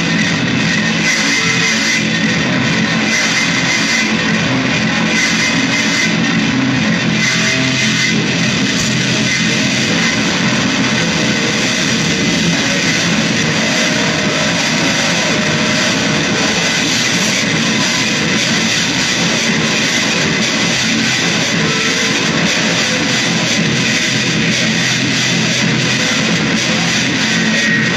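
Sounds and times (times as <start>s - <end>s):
distorted electric guitar noise: 0.0s - 27.9s.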